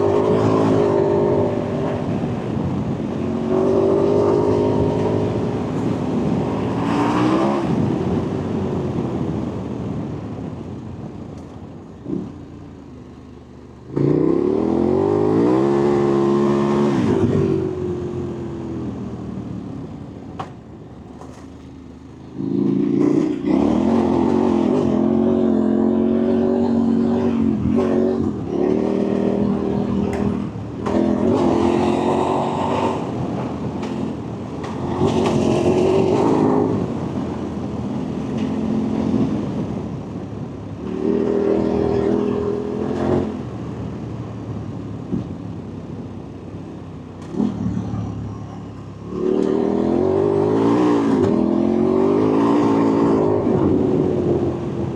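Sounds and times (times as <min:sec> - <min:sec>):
off-road vehicle engine revving: 0:00.0 - 0:10.0, 0:13.7 - 0:19.8, 0:22.2 - 0:45.3, 0:45.9 - 0:54.9.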